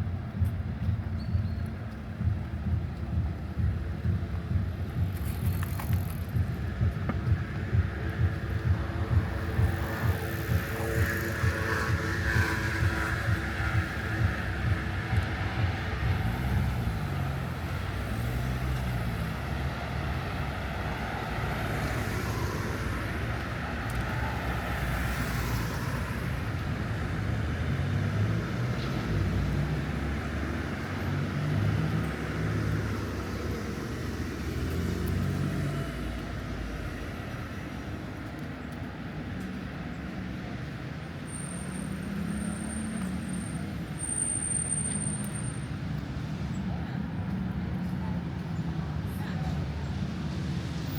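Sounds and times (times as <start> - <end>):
vehicles passing: 0.0 - 50.9.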